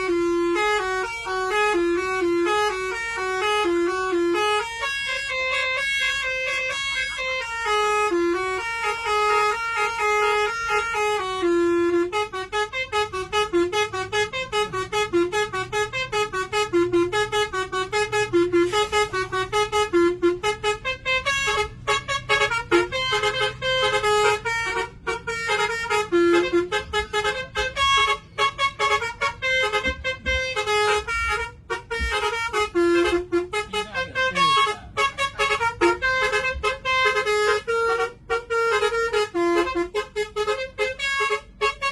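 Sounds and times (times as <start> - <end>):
musical air horn playing a tune: 0.0 - 41.9.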